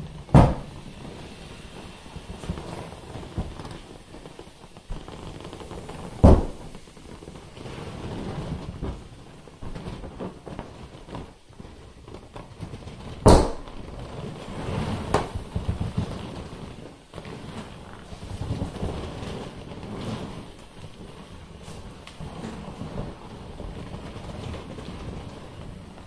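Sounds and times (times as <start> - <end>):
vinyl rubbing and creaking: 0.0 - 26.0.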